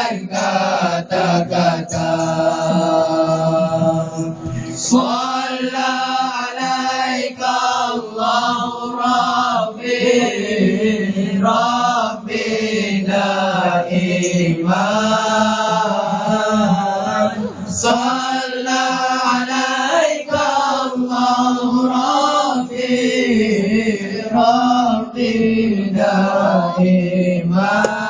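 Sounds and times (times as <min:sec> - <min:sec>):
boys' vocal drone: 0:00.0 - 0:28.0
lead voice singing: 0:00.0 - 0:28.0.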